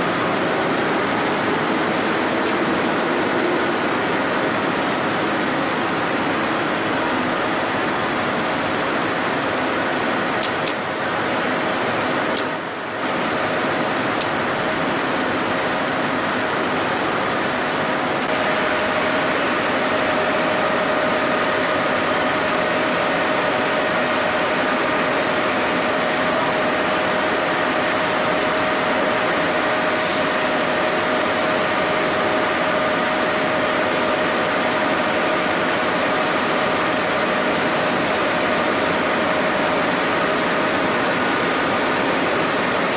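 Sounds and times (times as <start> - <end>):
spinning machinery drone: 0.0 - 42.9
thin steady whine: 0.0 - 42.9.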